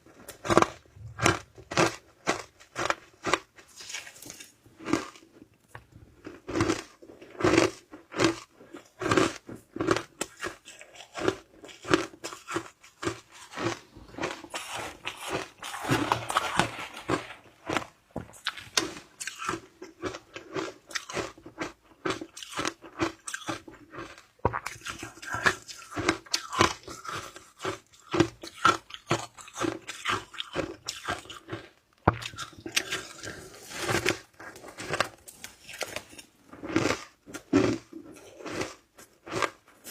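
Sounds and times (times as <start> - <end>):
shaved ice crunching while chewed: 0.1 - 39.9.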